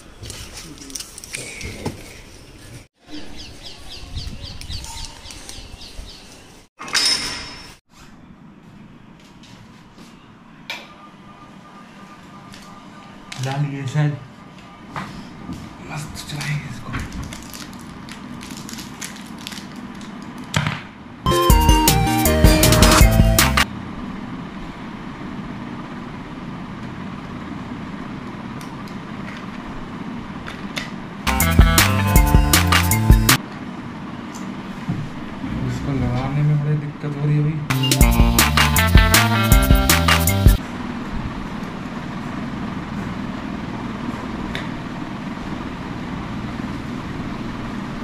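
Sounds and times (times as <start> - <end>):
room or street background noise: 0.0 - 21.3, 23.0 - 48.0.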